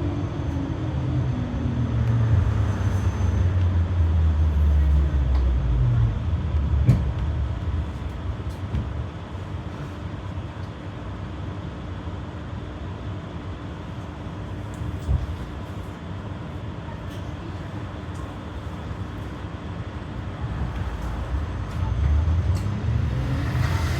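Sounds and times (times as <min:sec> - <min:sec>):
tram running rumble: 0:00.0 - 0:23.9.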